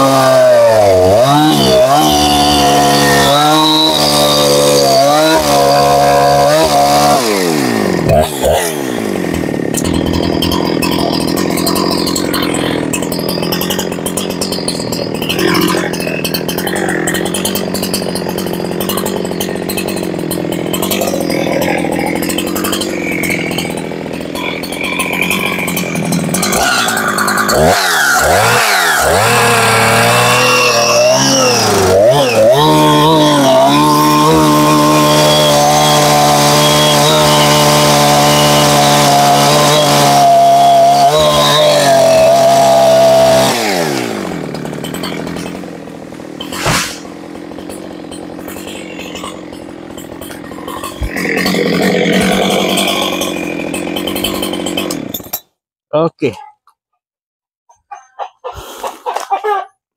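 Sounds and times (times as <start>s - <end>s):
chainsaw running and revving: 0.0s - 55.5s.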